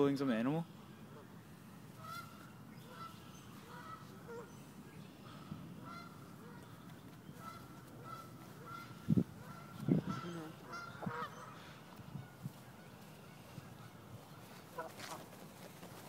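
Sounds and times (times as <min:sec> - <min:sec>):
geese honking: 0:01.1 - 0:15.3.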